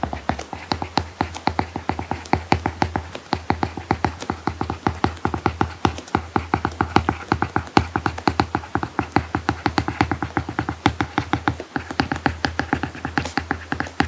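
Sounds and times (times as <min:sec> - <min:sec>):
steady low hum: 0:00.0 - 0:14.0
stylus tapping and scratching on screen: 0:00.0 - 0:14.0.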